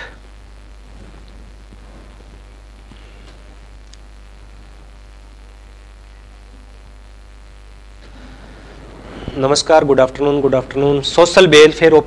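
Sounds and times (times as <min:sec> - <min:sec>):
low hum: 0:00.0 - 0:11.4
faint background hiss: 0:00.0 - 0:12.0.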